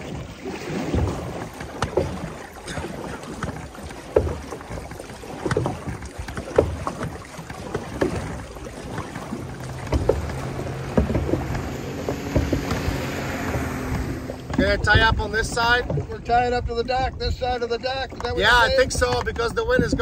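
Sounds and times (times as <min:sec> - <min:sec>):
small splashes and knocks: 0:00.0 - 0:16.4, 0:18.0 - 0:20.0
motorboat engine hum: 0:00.0 - 0:20.0
water lapping against canoe hull: 0:00.0 - 0:20.0.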